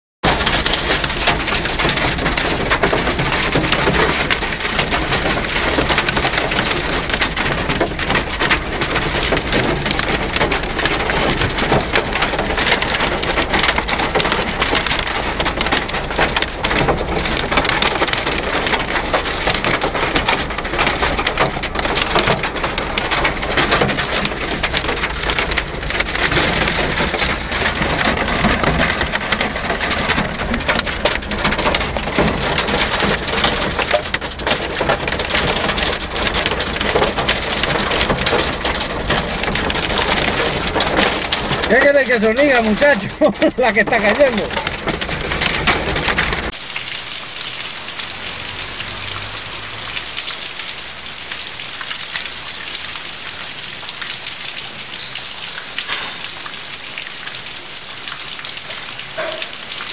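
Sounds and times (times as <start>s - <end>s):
rain and hail on vehicle roof: 0.2s - 59.9s.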